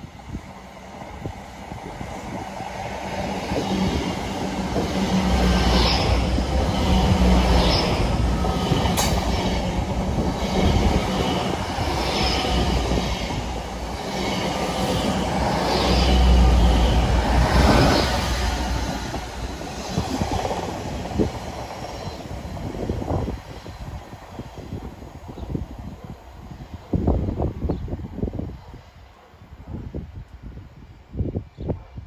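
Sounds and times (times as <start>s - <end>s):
train rumbling past: 0.0s - 30.2s
rail noise: 0.0s - 32.0s.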